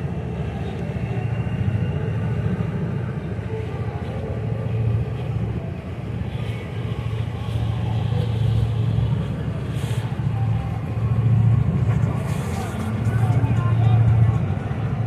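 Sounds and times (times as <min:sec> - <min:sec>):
motorboat engine rumble: 0:00.0 - 0:15.0.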